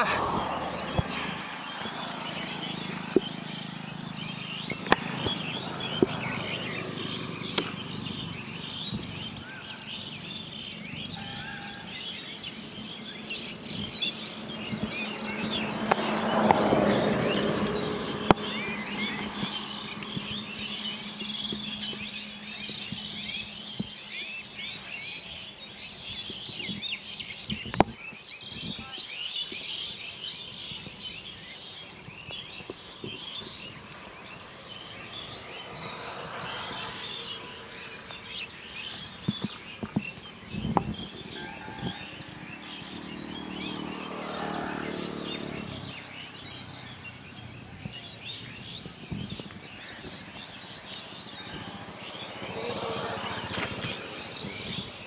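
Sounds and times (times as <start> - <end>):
outdoor background noise: 0.0 - 55.0
small birds chirping: 0.0 - 55.0.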